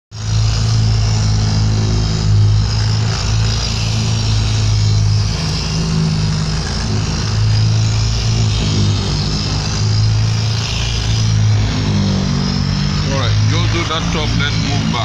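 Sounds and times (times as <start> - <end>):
electric brush scrubbing carpet: 0.1 - 15.0.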